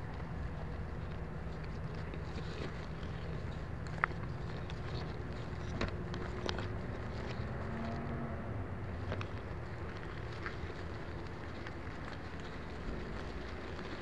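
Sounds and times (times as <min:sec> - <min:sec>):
grass and leaves brushing camera: 0:00.0 - 0:08.2, 0:08.8 - 0:14.0
steady low rumble: 0:00.0 - 0:14.0.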